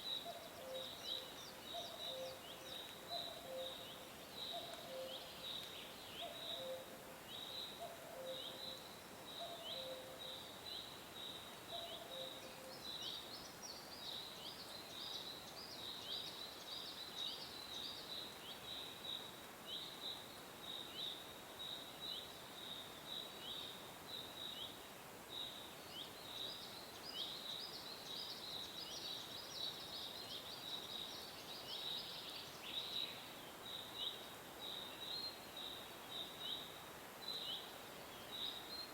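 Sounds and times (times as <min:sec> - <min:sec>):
faint steady hiss: 0:00.0 - 0:38.9
songbirds chirping: 0:00.0 - 0:38.9.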